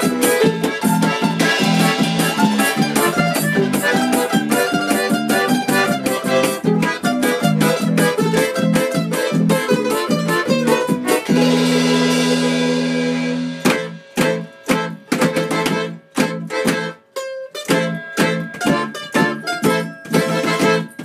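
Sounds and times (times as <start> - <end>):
bass guitar: 0.0 - 21.0
button accordion: 0.0 - 21.0
cajon and cymbal beat: 0.0 - 21.0
domra and balalaika: 0.0 - 21.0.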